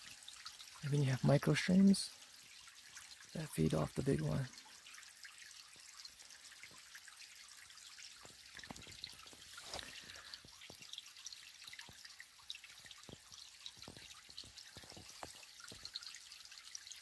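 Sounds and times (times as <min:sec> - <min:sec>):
stream trickling and dripping: 0:00.0 - 0:17.0.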